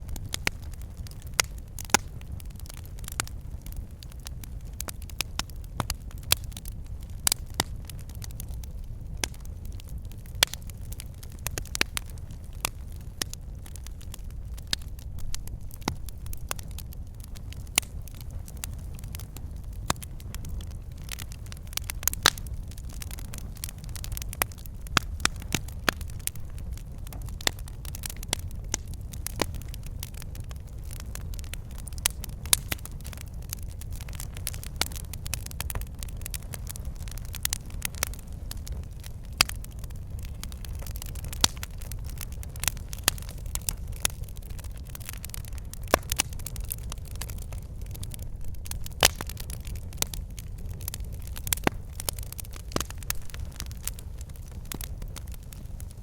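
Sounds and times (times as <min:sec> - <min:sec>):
log fire crackling and popping: 0:00.0 - 0:56.0
low rumble of flame: 0:00.0 - 0:56.0.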